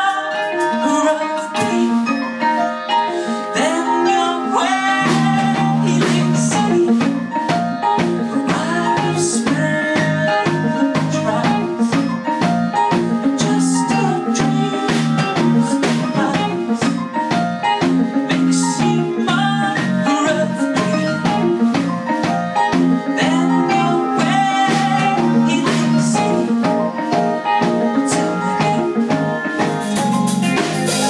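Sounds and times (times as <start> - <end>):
electric bass guitar: 0.0 - 31.0
electric guitar: 0.0 - 31.0
electric piano: 0.0 - 31.0.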